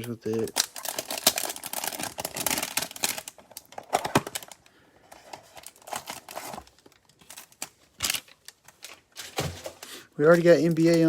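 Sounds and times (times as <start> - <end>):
plastic wrappers crinkling and tearing: 0.0 - 11.0.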